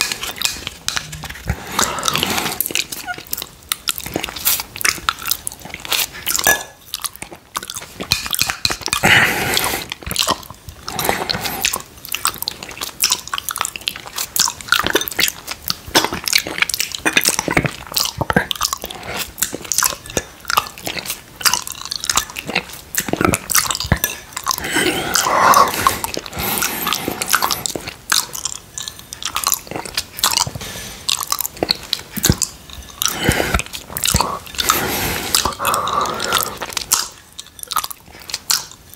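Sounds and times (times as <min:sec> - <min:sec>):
wet mouth eating sounds: 0:00.0 - 0:38.9.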